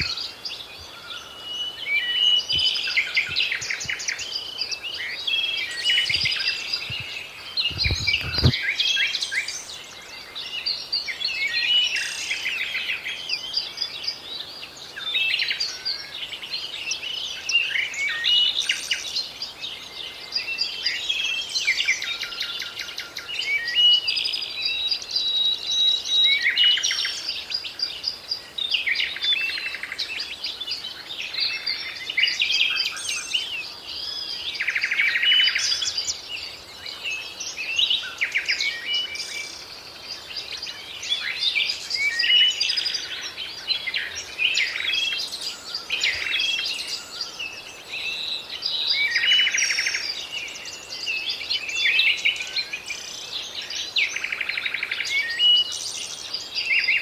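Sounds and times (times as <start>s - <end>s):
songbirds chorus: 0.0s - 57.0s.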